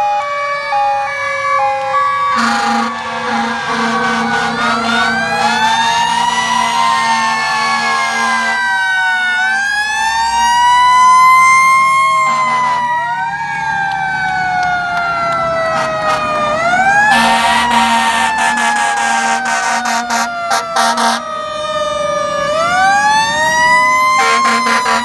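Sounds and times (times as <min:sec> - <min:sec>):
fire truck sirens wailing: 0:00.0 - 0:25.0.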